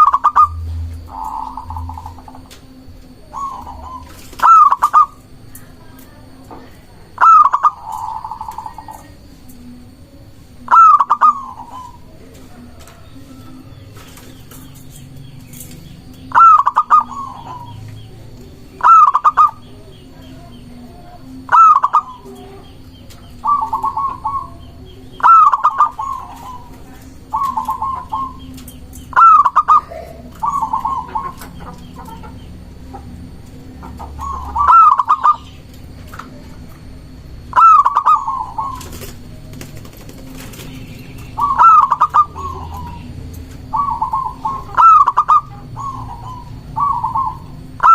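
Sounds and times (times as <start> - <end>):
dove trilled cooing: 0.0 - 47.9.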